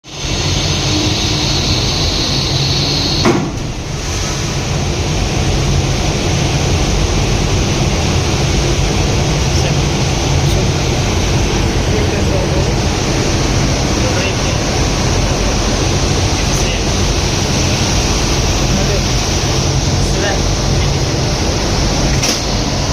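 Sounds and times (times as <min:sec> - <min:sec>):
high whine: 0:00.0 - 0:22.9
machinery running with low hum: 0:00.1 - 0:22.9.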